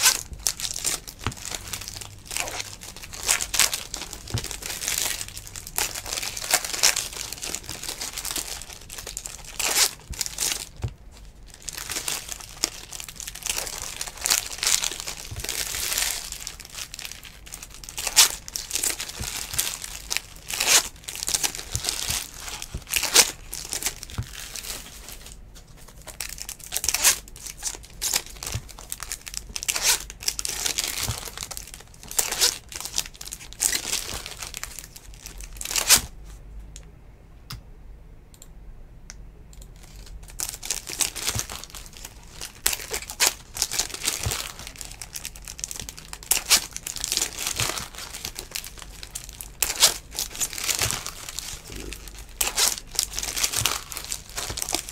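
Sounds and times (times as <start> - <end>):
foil wrappers crinkling and tearing: 0.0 - 36.2, 39.8 - 54.9.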